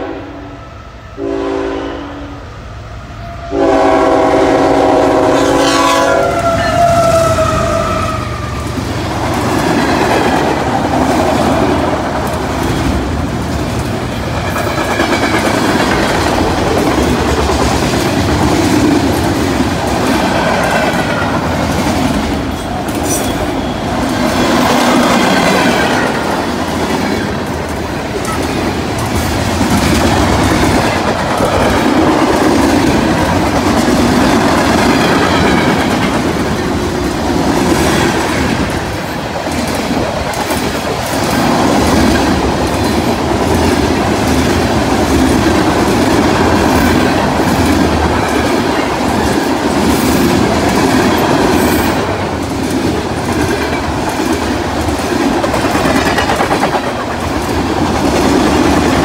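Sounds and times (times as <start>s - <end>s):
steel wheels rumbling on rail: 0.0s - 59.0s
wheels clacking over rail joints: 8.8s - 59.0s.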